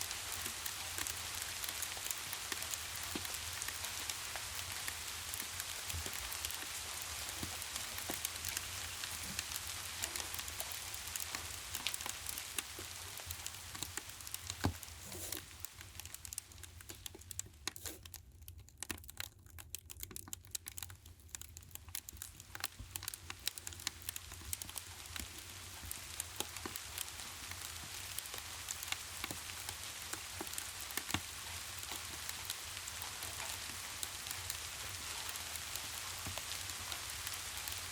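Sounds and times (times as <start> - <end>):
steady rain: 0.0 - 17.8, 20.8 - 37.9
wood fire crackling and popping: 0.0 - 37.9.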